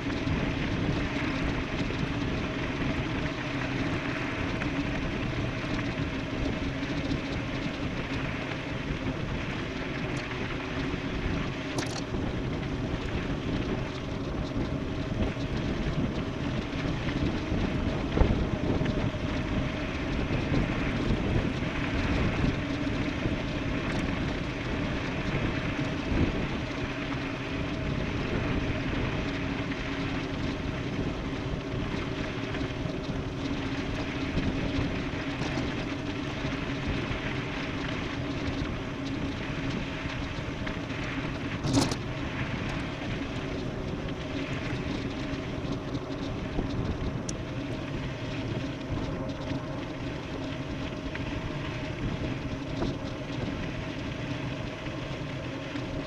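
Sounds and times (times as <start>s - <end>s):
steady hum: 0.0s - 56.0s
wind rushing over microphone: 0.0s - 56.0s.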